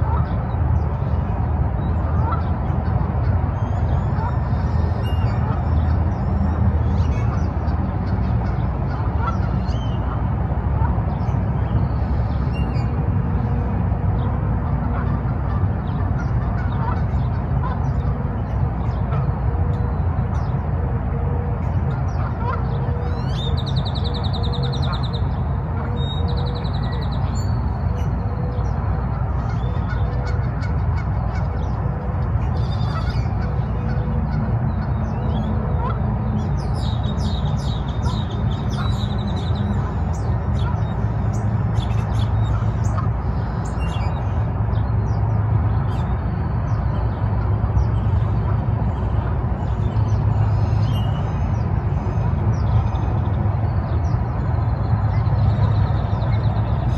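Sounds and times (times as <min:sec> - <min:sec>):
birds chirping and calling: 0:00.1 - 0:20.6, 0:21.6 - 0:54.3.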